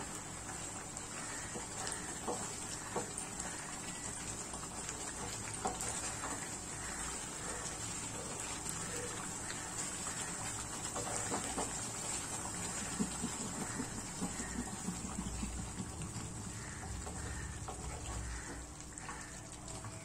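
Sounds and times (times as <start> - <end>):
gravy simmering and sizzling: 0.0 - 20.0
spatula stirring in pan: 0.1 - 20.0.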